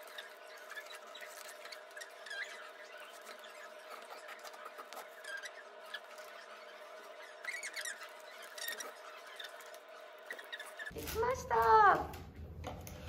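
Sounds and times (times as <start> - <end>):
cord squeaking through drum lacing: 0.0 - 10.9.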